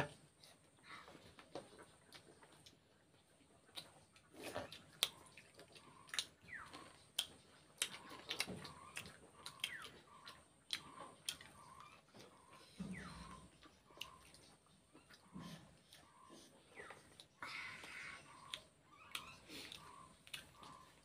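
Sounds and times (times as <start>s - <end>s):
mouth chewing and lip smacks: 1.2s - 21.0s.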